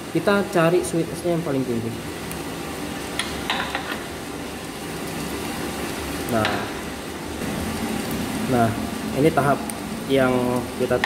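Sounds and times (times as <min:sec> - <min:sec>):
coffee roaster drum rushing sizzle: 0:00.0 - 0:11.0.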